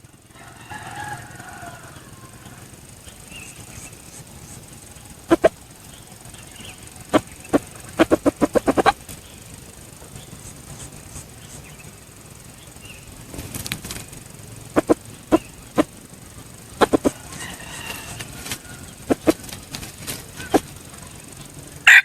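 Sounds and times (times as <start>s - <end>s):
rooster flapping wings: 0.2s - 22.0s
feather rustle: 0.7s - 21.6s.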